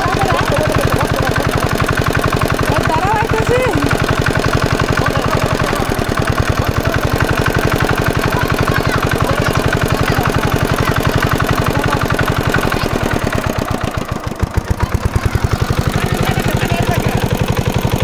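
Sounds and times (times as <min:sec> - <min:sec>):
water pump engine knocking: 0:00.0 - 0:18.0.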